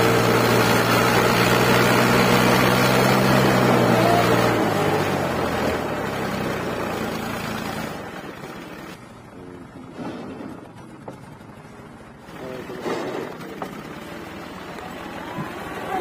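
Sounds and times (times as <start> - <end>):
tractor diesel engine labouring: 0.0 - 16.0.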